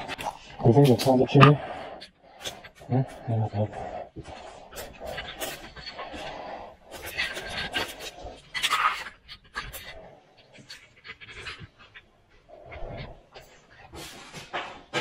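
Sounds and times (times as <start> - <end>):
heavy breathing: 0.0 - 15.0.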